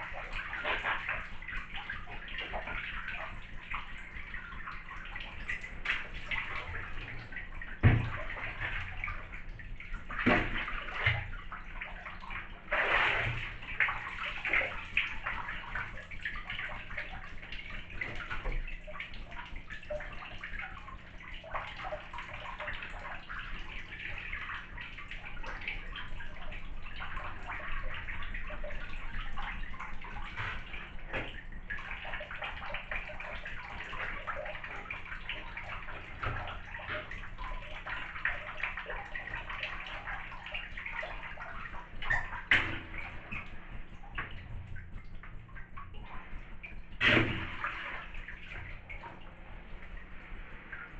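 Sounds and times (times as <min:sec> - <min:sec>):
knocks and splashes: 0:00.0 - 0:50.9
water sloshing in bathtub: 0:00.0 - 0:50.9.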